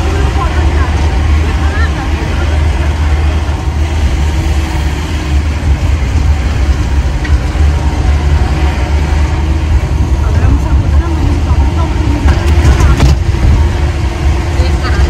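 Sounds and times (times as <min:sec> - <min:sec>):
car engine drone: 0:00.0 - 0:15.0
road rumble: 0:00.0 - 0:15.0.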